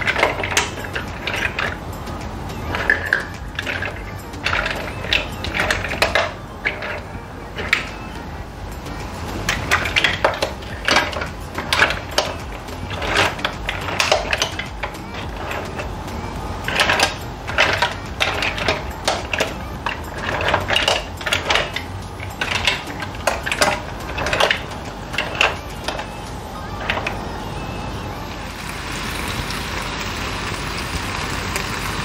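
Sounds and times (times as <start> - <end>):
mussel shells clattering in a pan: 0.0 - 27.2.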